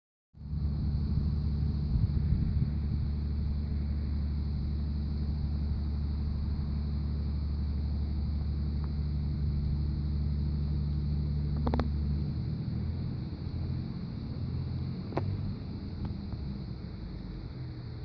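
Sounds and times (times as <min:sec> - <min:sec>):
low rumble: 0:00.4 - 0:18.0.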